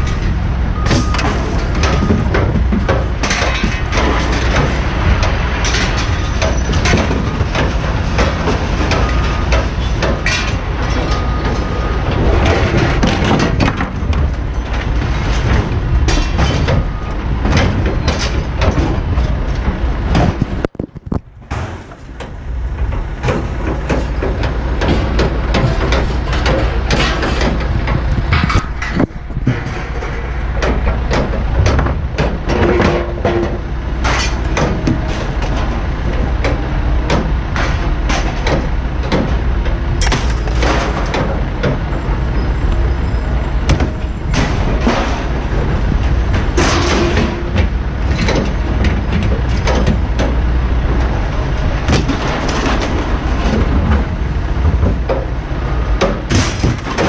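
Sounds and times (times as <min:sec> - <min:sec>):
scrap metal clanking: 0:00.0 - 0:20.6, 0:23.2 - 0:57.0
steady low rumble: 0:00.0 - 0:57.0.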